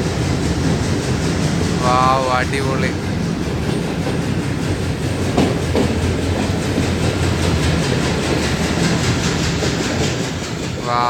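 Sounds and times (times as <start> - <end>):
clickety-clack over rail joints: 0.0 - 11.0
train wheels rumbling on rails: 0.0 - 11.0.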